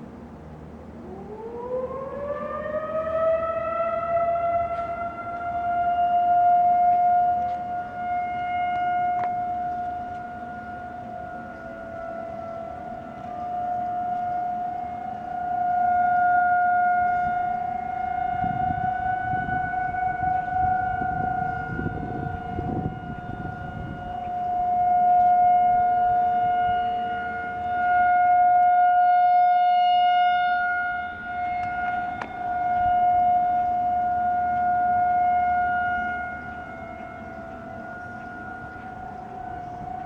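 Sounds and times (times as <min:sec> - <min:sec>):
warning sirens steady tone: 0:00.0 - 0:40.0.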